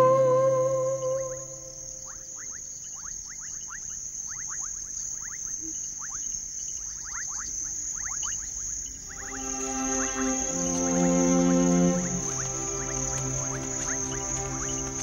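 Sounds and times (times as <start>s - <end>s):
high-pitched insect trill: 0.0s - 15.0s
quick downward chirps: 0.0s - 15.0s.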